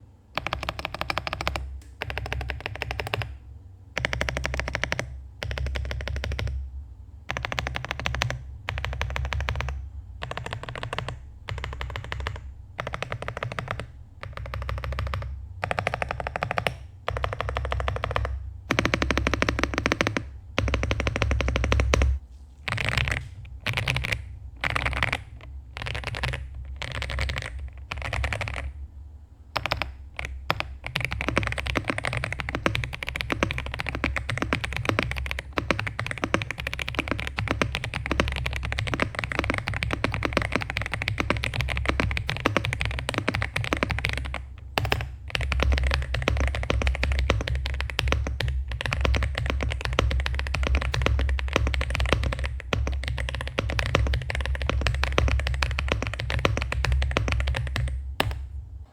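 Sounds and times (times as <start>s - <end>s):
mechanical keyboard typing: 0.4s - 3.4s, 4.0s - 6.6s, 7.3s - 28.8s, 29.6s - 58.5s.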